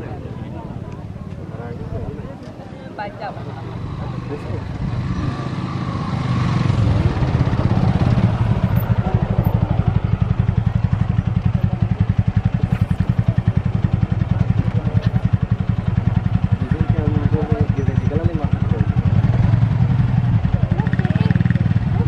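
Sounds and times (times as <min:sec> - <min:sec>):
engine running: 0:03.4 - 0:22.0.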